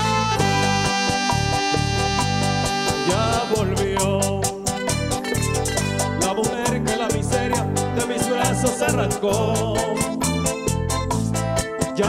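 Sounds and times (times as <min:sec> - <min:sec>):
bass line: 0:00.0 - 0:12.0
high percussion beat: 0:00.0 - 0:12.0
plucked guitar melodies: 0:00.0 - 0:12.0.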